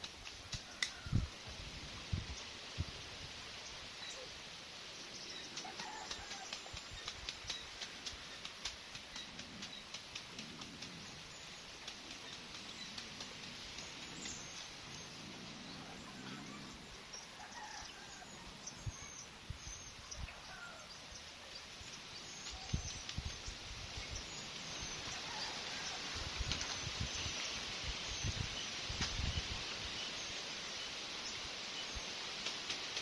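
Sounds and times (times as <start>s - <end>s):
faint outdoor ambience: 0.0s - 33.0s.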